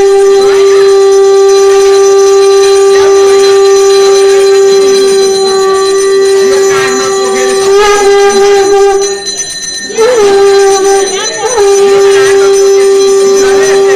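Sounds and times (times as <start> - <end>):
conch shell blown: 0.0 - 13.9.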